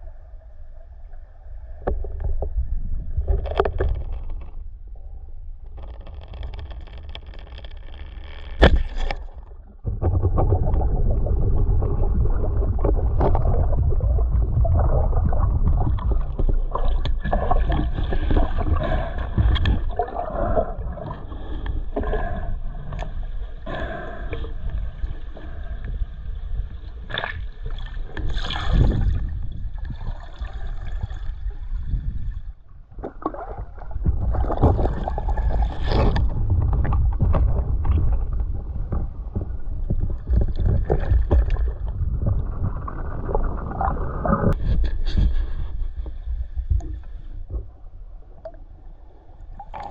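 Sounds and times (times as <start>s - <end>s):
muffled rumble of water: 0.0s - 49.9s.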